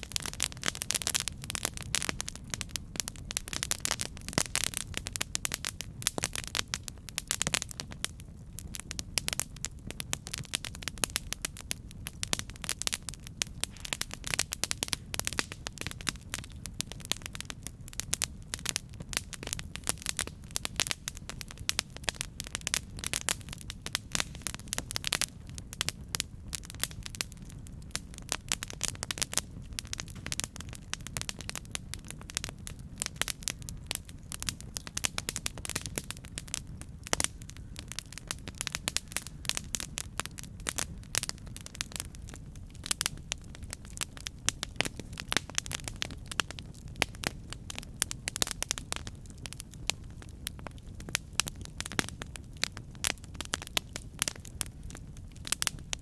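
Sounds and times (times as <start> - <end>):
campfire crackling and popping: 0.0 - 56.0
low rumble of flames: 0.0 - 56.0.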